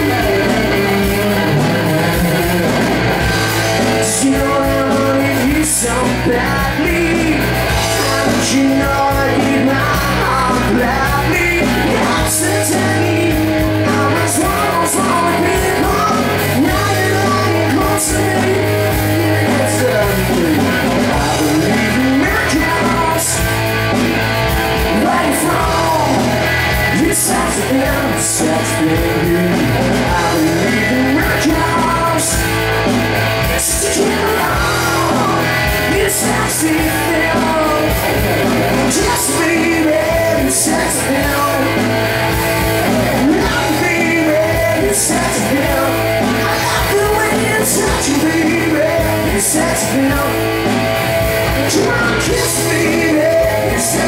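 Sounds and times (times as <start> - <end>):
drum kit with cymbals: 0.0 - 54.0
electric bass: 0.0 - 54.0
electric guitar: 0.0 - 54.0
person singing: 0.0 - 54.0.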